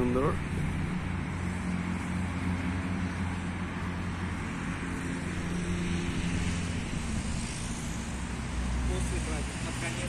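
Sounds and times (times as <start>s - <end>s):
low engine drone: 0.0s - 10.0s
road traffic hum: 0.0s - 10.0s.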